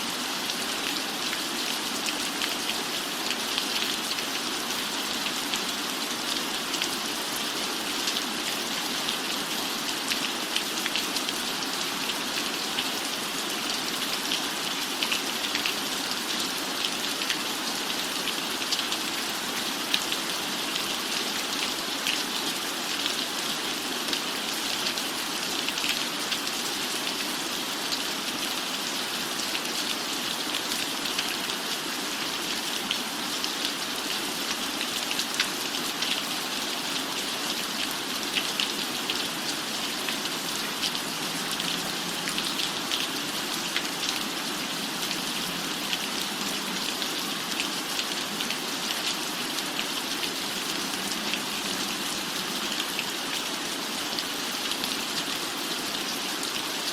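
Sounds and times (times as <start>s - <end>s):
rain pattering on a roof: 0.0s - 56.9s.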